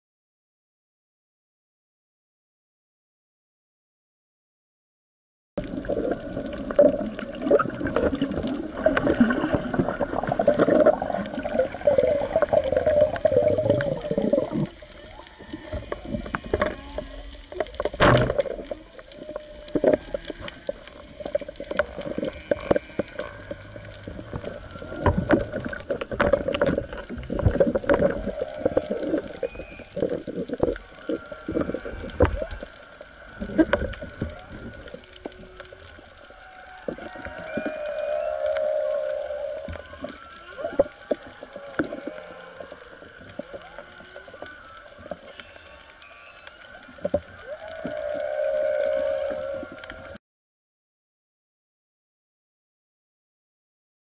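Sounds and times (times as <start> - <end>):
reef crackle of small clicks: 5.6 - 50.2
whale song moans: 5.8 - 50.2.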